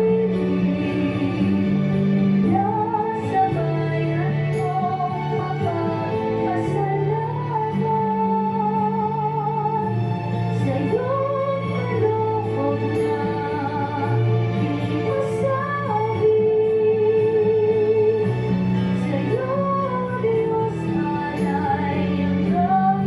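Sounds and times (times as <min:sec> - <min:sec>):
woman singing song: 0:00.0 - 0:23.0.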